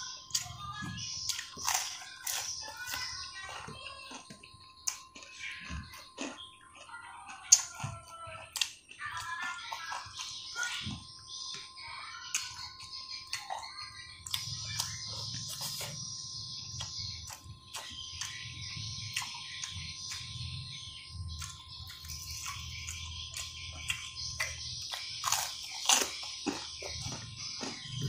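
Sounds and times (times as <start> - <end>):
wet chewing: 0.0 - 28.0.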